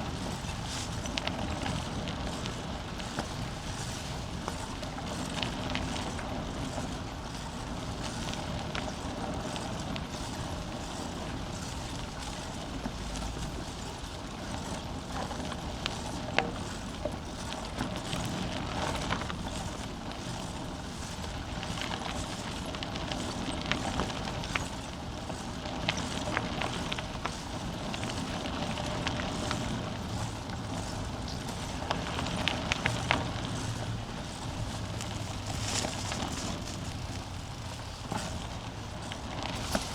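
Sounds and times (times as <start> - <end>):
bicycle rolling: 0.0 - 39.9
bike clicks and rattles: 0.0 - 39.9.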